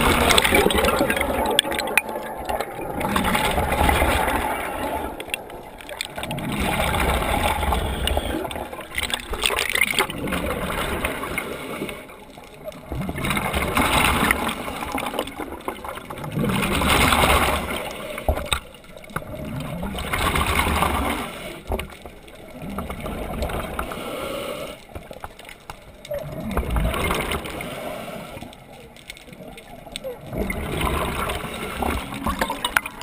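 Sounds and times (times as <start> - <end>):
underwater regulator bubbles: 0.0 - 25.3, 25.9 - 33.0.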